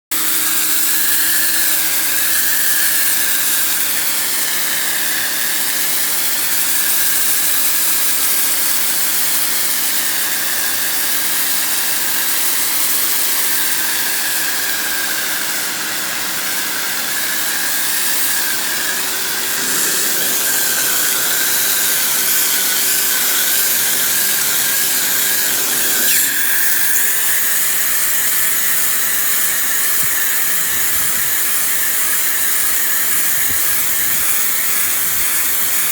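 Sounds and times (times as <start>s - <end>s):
pressure washer motor hum: 0.2s - 30.6s.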